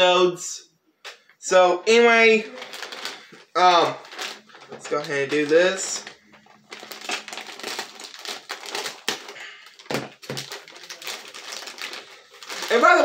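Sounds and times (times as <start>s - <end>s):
packaging crinkling and tearing: 2.5s - 13.0s.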